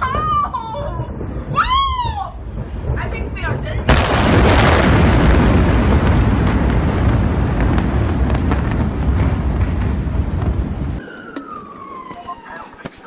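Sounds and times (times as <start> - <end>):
huge explosion rumble: 0.0 - 12.5
sharp cracks of secondary blasts: 1.0 - 12.0.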